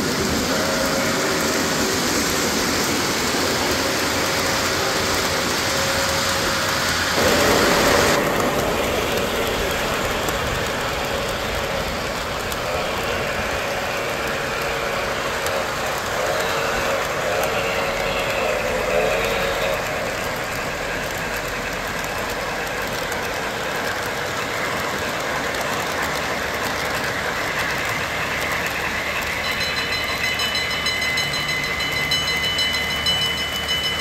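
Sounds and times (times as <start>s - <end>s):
model train wheels rumbling on track: 0.0s - 34.0s.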